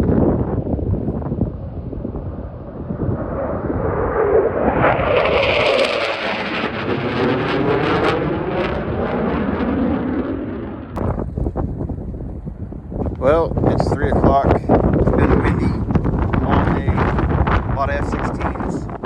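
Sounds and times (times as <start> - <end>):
jet passing overhead: 0.0 - 19.0.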